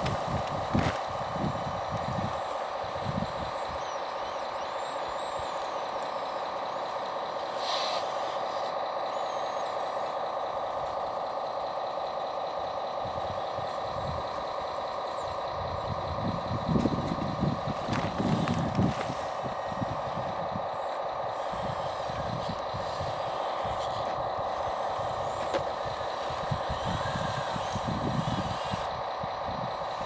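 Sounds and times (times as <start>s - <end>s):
electric motors whining: 0.0s - 30.0s.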